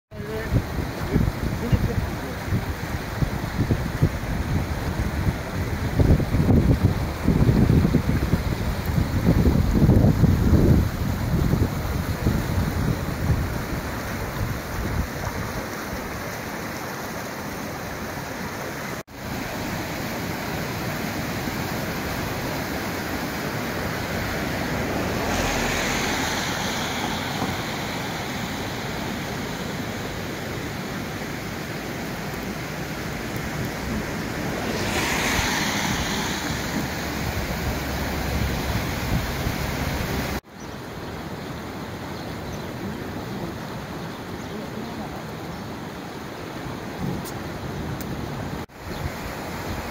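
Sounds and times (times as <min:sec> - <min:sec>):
wind on microphone: 0:00.1 - 0:16.5, 0:19.3 - 0:40.4, 0:46.7 - 0:49.9
waves washing onto shingle: 0:00.1 - 0:40.5
river rushing: 0:00.1 - 0:49.9.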